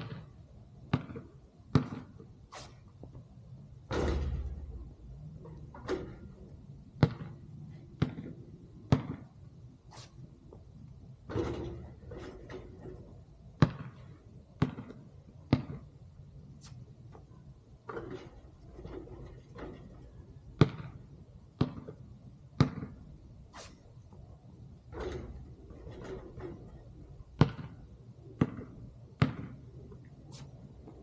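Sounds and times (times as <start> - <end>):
basketball bouncing on hard ground: 0.0 - 3.3, 3.9 - 9.5, 10.2 - 23.5, 24.1 - 31.0.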